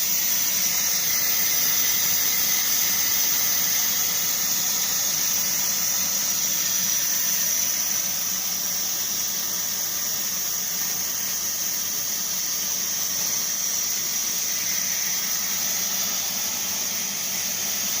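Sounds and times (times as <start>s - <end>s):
plasma cutter arc hissing: 0.0s - 18.0s.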